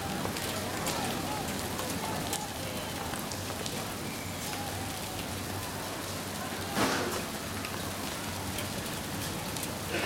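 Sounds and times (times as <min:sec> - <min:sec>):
rain hiss: 0:00.0 - 0:10.0.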